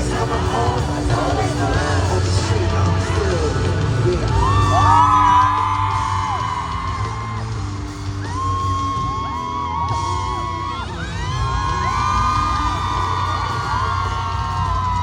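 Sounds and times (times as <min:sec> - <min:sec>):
crowd screaming and whooping: 0:00.0 - 0:15.0
live pop music with heavy bass: 0:00.0 - 0:15.0.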